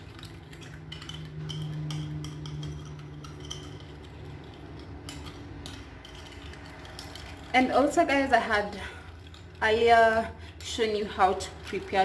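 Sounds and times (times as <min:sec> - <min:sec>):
spoon clinking and scraping: 0:00.0 - 0:12.0.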